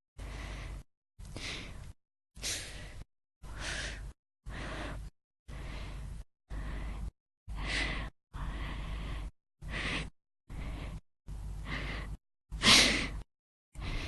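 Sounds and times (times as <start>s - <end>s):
breaths and sighs: 0.2s - 11.0s, 11.6s - 14.0s.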